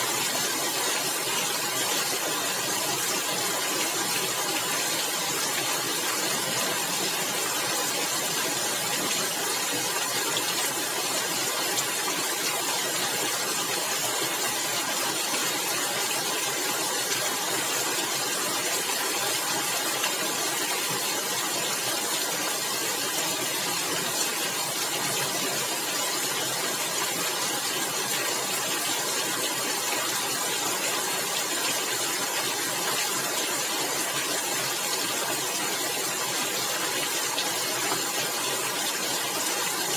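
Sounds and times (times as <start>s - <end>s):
rain on a tiled roof: 0.0s - 39.9s.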